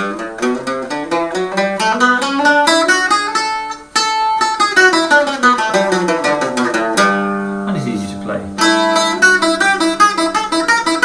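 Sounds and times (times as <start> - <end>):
picked string notes: 0.0 - 11.0
strings strummed loudly: 0.0 - 11.0.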